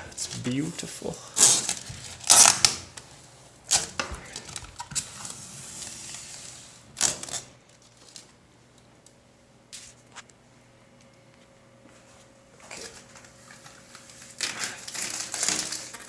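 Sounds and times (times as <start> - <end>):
plastic film peeling and crinkling: 0.1 - 10.4, 12.6 - 16.0.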